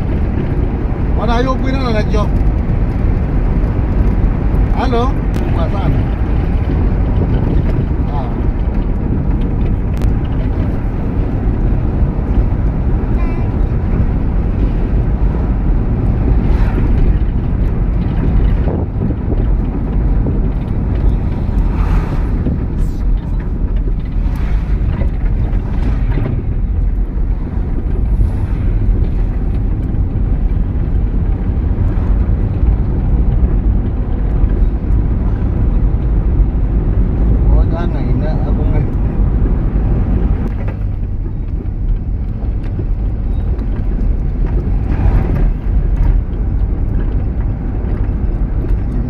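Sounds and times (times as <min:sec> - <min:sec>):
knocks and rattles: 0:00.0 - 0:49.0
vehicle engine and road noise: 0:00.0 - 0:49.0
wind buffeting microphone: 0:00.0 - 0:49.0.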